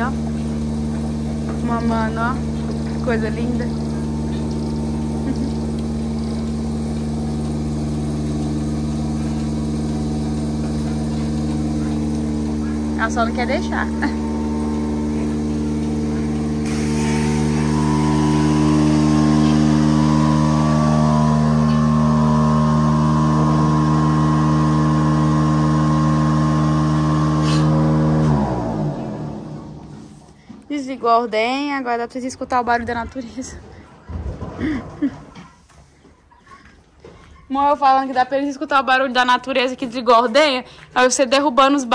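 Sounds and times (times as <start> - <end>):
milking machine motor humming: 0.0 - 37.1
vacuum pump droning: 0.0 - 41.9.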